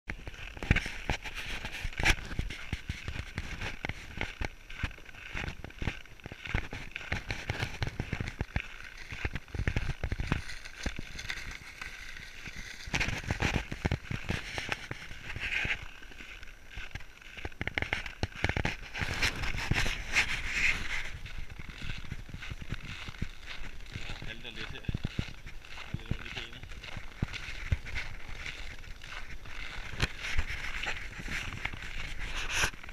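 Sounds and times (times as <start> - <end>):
footsteps crunching on snow: 0.1 - 32.9
sled dragged over snow: 0.1 - 32.9.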